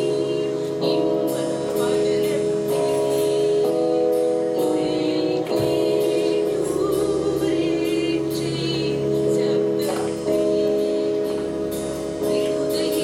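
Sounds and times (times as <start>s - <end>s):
person singing: 0.0s - 13.0s
sustained chords: 0.0s - 13.0s.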